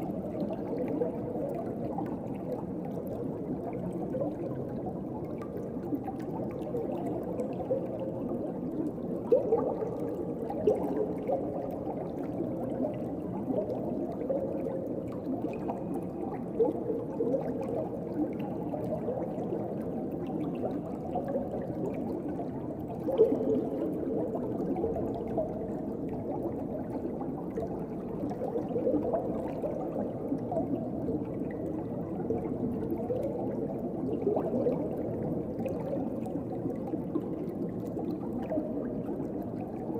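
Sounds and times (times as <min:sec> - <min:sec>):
bubbling and gurgling: 0:00.0 - 0:39.9.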